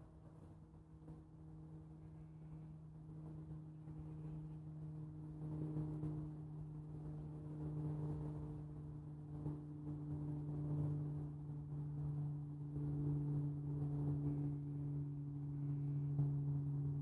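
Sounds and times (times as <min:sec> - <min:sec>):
steady low hum: 0:00.0 - 0:17.0
wind rumble on microphone: 0:00.0 - 0:17.0.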